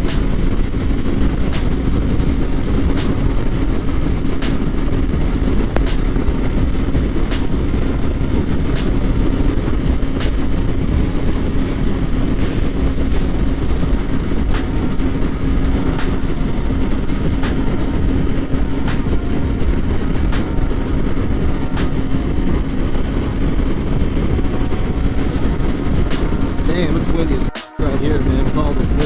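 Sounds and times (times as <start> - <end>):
motorcycle engine cruising: 0.0 - 29.0
wind rumble on microphone: 0.0 - 29.0.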